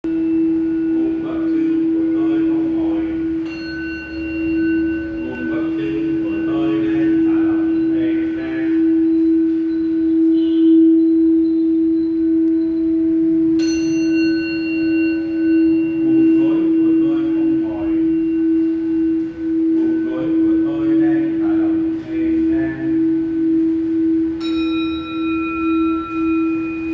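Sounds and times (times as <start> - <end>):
singing bowl ringing: 0.0 - 26.9
singing bowl strike: 0.1 - 26.9.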